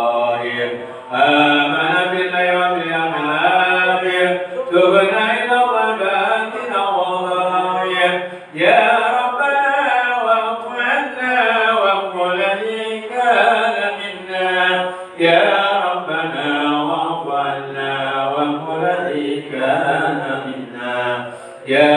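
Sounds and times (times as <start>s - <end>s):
voices chanting melodic recitation: 0.0s - 21.9s.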